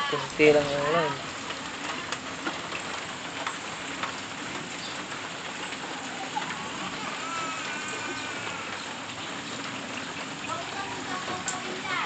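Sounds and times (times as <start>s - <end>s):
raindrops ticking: 0.0s - 12.0s
steady rain: 0.0s - 12.0s.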